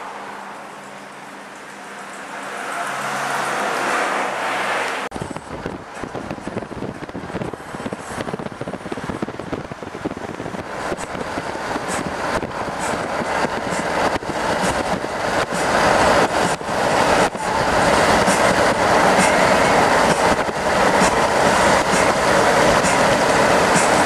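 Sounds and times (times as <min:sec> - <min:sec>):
road and wind noise in vehicle: 0:00.0 - 0:24.0.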